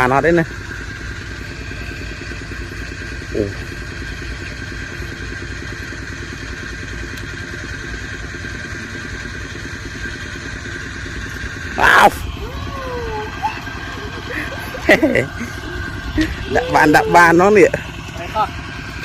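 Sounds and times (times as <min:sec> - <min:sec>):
small engine running steadily: 0:00.0 - 0:19.0.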